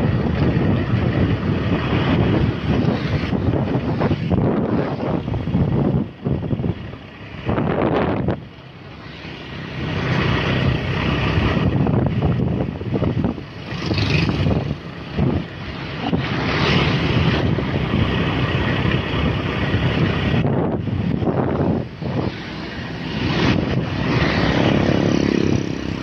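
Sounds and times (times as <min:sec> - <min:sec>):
cars passing: 0:00.0 - 0:26.0
motorbikes passing: 0:00.0 - 0:26.0
wind rumbling on microphone: 0:00.0 - 0:26.0.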